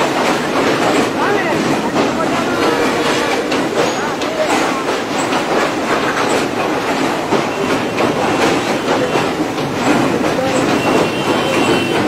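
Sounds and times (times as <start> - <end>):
train clanking and rattling on rails: 0.0 - 12.0.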